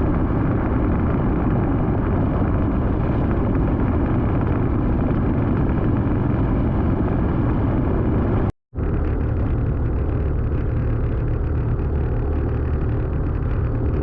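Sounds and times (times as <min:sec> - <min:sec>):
motorbike engine running: 0:00.0 - 0:14.0
wind rush on microphone: 0:00.0 - 0:14.0.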